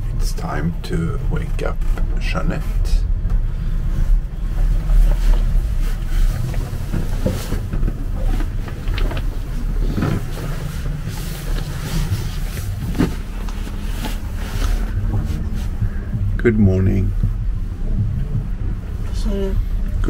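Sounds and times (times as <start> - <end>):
knocks and creaks: 0.0 - 20.0
low rumble of sailing yacht: 0.0 - 20.0.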